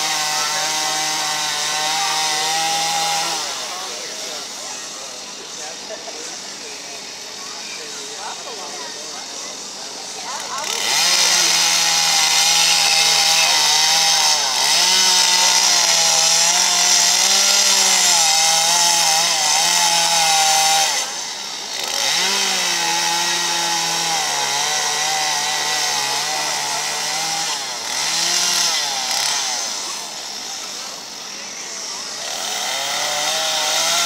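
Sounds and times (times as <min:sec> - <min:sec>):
chainsaw carving wood: 0:00.0 - 0:34.0.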